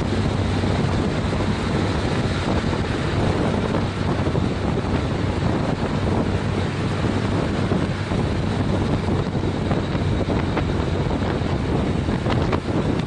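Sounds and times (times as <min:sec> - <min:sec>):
motorcycle engine: 0:00.0 - 0:13.0
road noise: 0:00.0 - 0:13.0
wind buffeting microphone: 0:00.0 - 0:13.0.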